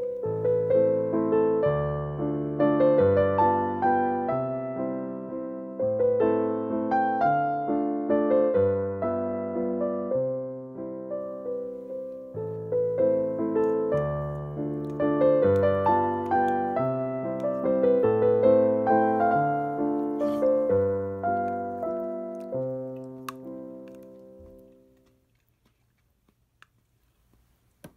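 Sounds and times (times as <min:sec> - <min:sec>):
slow piano music: 0:00.0 - 0:25.1.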